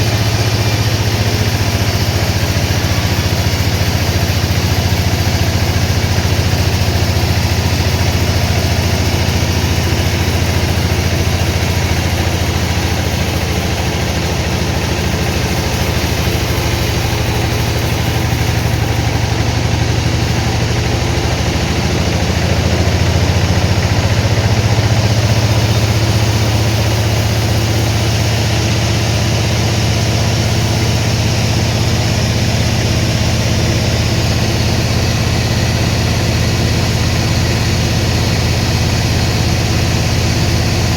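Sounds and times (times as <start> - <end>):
sawmill engine humming: 0.0 - 40.9.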